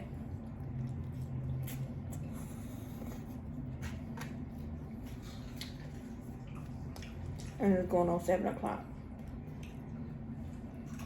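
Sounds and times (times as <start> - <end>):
chewing noodles: 0.0 - 7.9, 9.0 - 11.0
low steady hum: 0.0 - 11.0.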